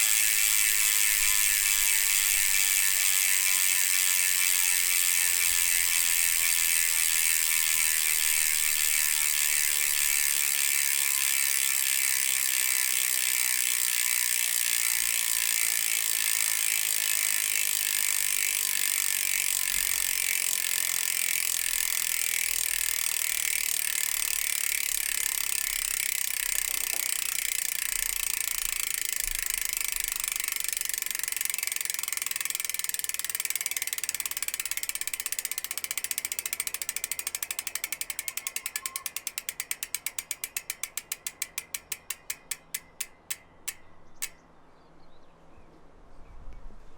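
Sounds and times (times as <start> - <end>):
bicycle hub freewheel clicking: 0.0 - 44.4.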